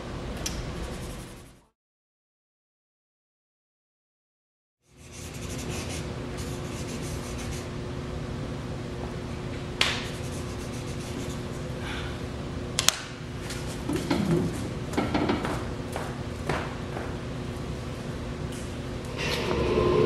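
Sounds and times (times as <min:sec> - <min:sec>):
room hum: 0:00.0 - 0:01.7, 0:04.8 - 0:20.0.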